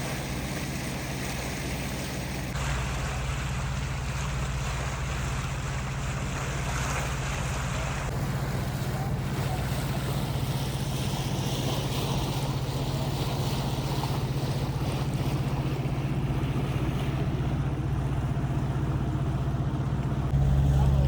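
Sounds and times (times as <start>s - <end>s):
boat motor humming: 0.0s - 21.0s
wind: 0.0s - 21.0s.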